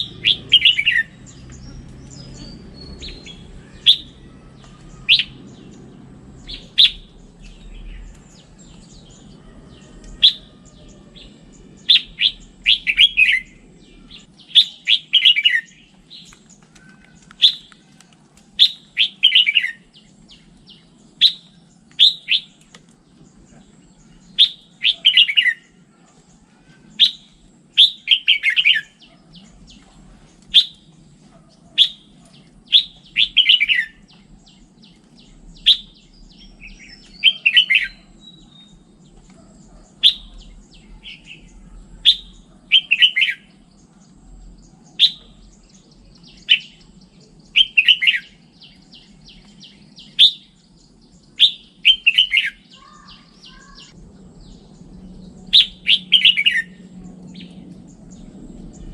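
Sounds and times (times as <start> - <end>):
bird singing sharp phrases: 0.0 - 58.9.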